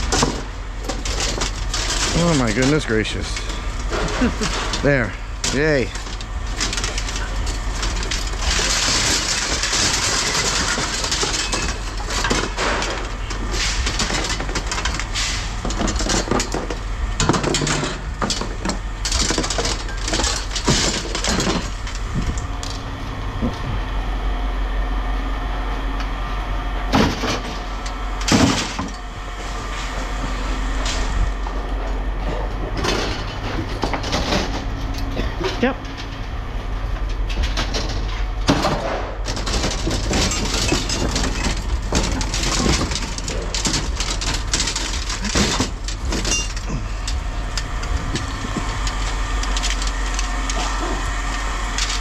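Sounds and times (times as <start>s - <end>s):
scrap metal clattering: 0.0s - 22.8s, 26.9s - 36.4s, 37.0s - 52.0s
low machine hum: 0.0s - 52.0s.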